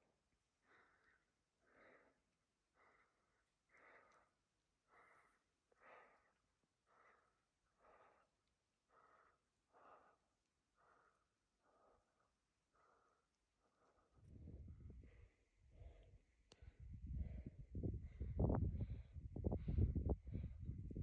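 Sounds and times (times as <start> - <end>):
heavy human breathing: 0.6 - 21.0.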